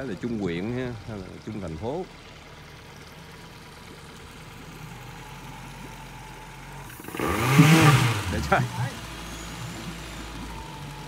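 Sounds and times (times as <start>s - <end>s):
boat diesel engine idling and revving: 0.0s - 11.0s.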